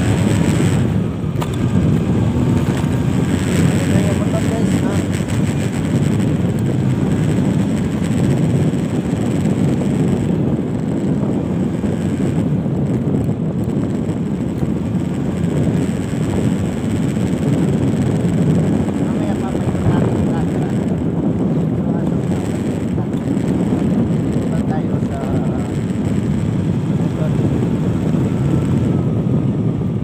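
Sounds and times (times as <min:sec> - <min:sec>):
motorcycle running: 0:00.0 - 0:30.0
wind buffeting microphone: 0:00.0 - 0:30.0.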